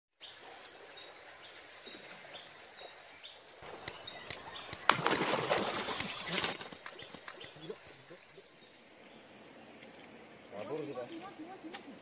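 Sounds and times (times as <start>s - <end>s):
insects droning: 0.2s - 12.0s.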